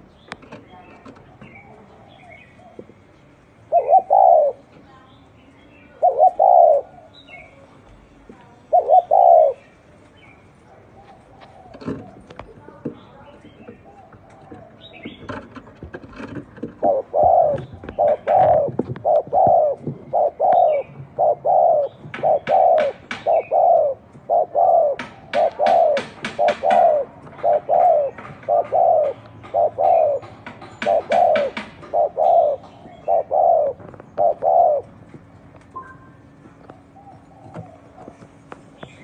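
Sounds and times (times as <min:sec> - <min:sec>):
dove cooing: 0:01.0 - 0:04.7, 0:05.9 - 0:07.6, 0:08.6 - 0:09.9, 0:10.6 - 0:39.0.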